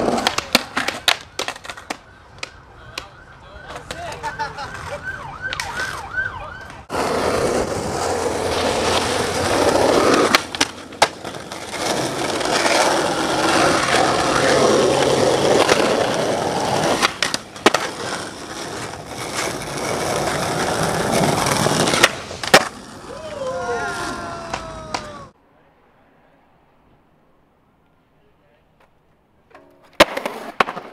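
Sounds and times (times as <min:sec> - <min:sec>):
skateboard clacking on ground: 0:00.0 - 0:03.1, 0:03.7 - 0:06.0, 0:06.6 - 0:23.1, 0:24.0 - 0:25.3, 0:28.8 - 0:30.9
skateboard wheels rolling on pavement: 0:00.0 - 0:25.4, 0:26.0 - 0:30.9.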